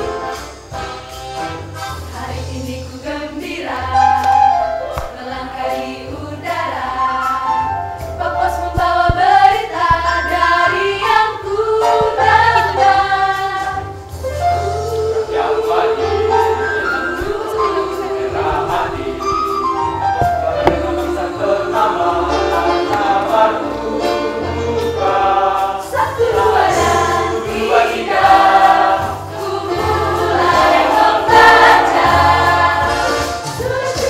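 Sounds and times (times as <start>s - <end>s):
choir singing pop song: 0.0s - 1.2s, 2.0s - 34.0s.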